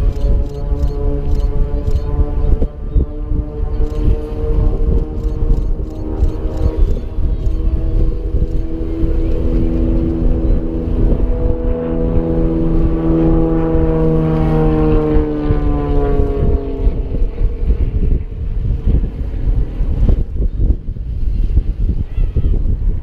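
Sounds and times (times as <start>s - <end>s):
engine passing by: 0.0s - 20.4s
wind buffeting microphone: 0.0s - 23.0s.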